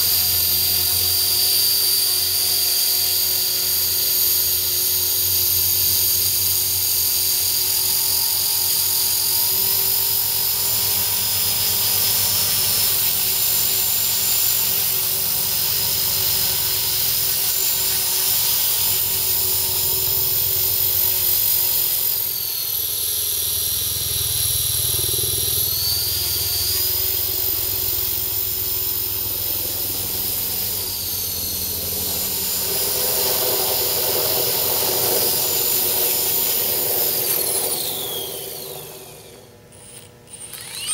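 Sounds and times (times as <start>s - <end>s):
electric motor whine: 0.0s - 40.9s
rotor blades whirring: 0.0s - 40.9s.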